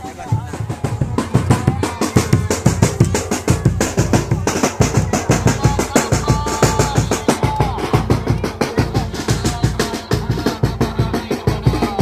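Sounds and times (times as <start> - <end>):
fast dense drumming: 0.0 - 12.0.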